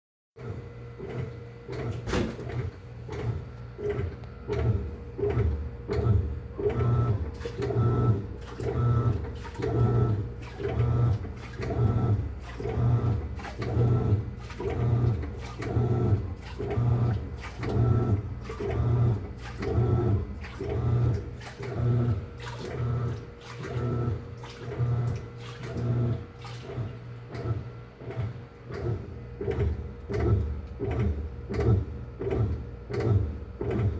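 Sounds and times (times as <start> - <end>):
washing machine humming: 0.4 - 33.9.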